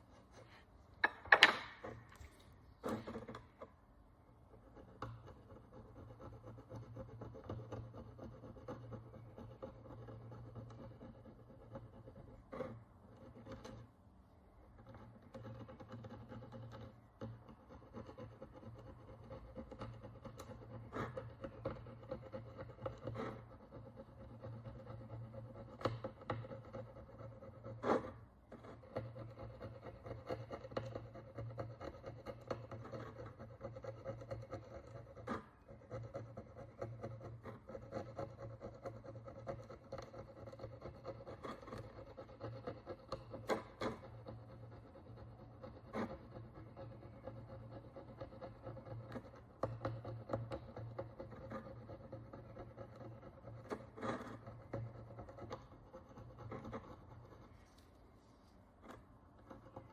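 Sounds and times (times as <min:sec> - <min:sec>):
tool scratching metal coin: 0:02.8 - 0:03.6, 0:04.6 - 0:13.9, 0:14.8 - 0:57.8, 0:58.8 - 0:59.9.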